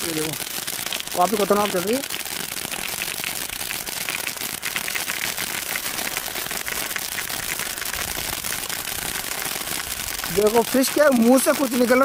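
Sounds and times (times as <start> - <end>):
crackling pops: 0.0 - 12.0
firework fountain hissing: 0.0 - 12.0.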